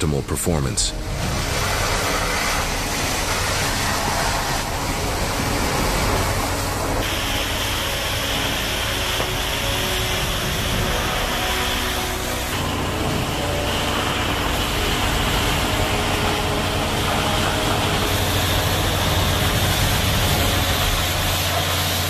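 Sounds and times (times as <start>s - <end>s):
low machine hum: 0.9s - 22.0s
water jet blasting hiss: 0.9s - 22.0s
muddy water pouring: 1.0s - 22.0s.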